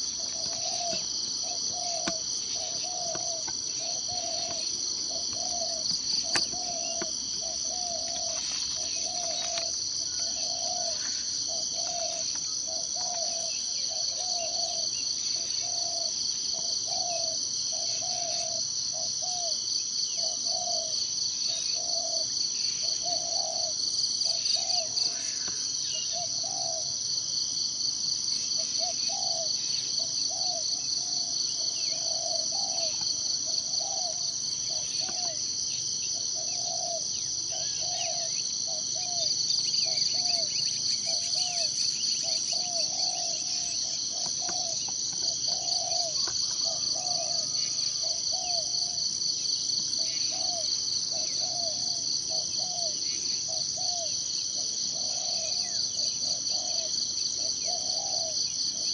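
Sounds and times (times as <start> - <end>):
insects trilling: 0.0 - 58.9.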